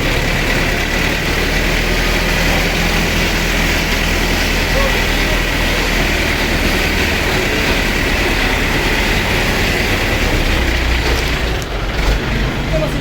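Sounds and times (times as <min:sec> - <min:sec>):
mixer machine running: 0:00.0 - 0:13.0.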